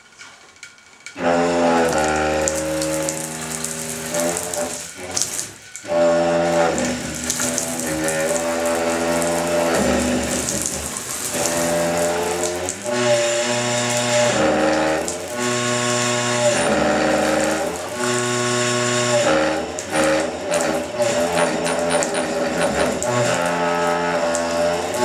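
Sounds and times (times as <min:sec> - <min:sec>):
plumbing droning tone: 0:00.1 - 0:25.0
running water hiss: 0:01.2 - 0:25.0.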